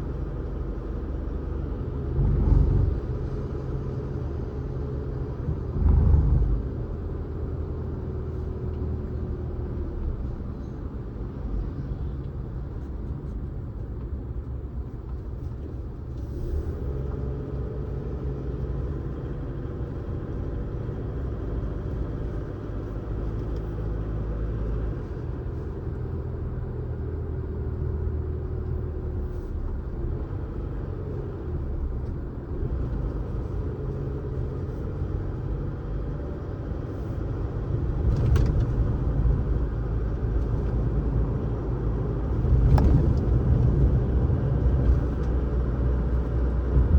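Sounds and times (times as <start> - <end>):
car engine and tyres rumbling: 0.0 - 46.9
faint engine whine: 0.0 - 46.9.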